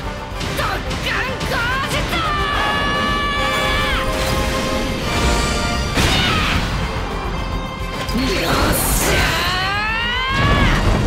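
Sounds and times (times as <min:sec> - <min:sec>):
orchestral background music: 0:00.0 - 0:11.0.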